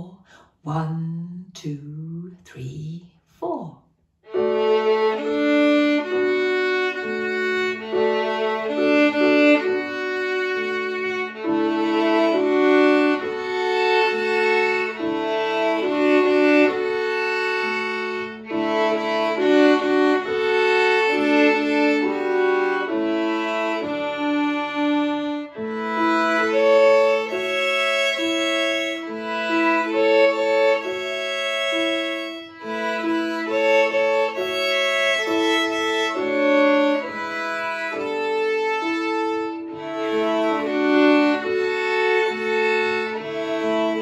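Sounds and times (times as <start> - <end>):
two violins playing a duet: 4.3 - 44.0.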